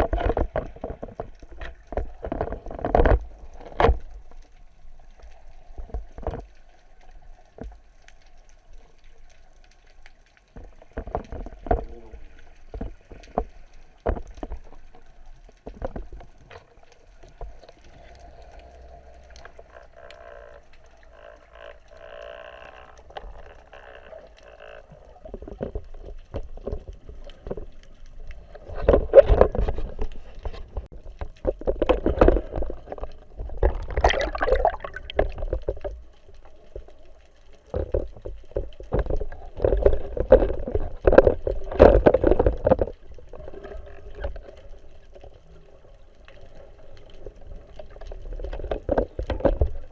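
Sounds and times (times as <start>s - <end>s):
water gurgling and splashing: 0.0s - 7.0s, 10.4s - 49.9s
underwater clicks and knocks: 0.0s - 8.4s, 9.0s - 18.5s, 19.1s - 45.4s, 46.2s - 49.9s.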